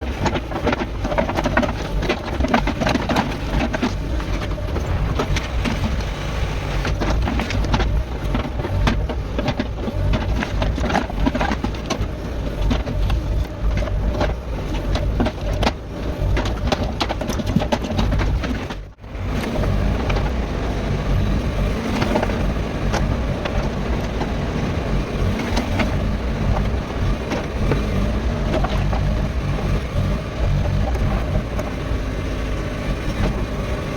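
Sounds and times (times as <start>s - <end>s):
bucket clanking and scraping stones: 0.0s - 33.9s
excavator diesel engine running: 0.0s - 33.9s.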